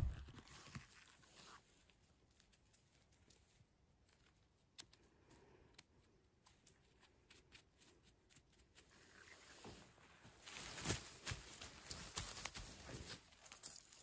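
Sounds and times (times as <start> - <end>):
mushrooms handled over dry grass: 0.0 - 14.0.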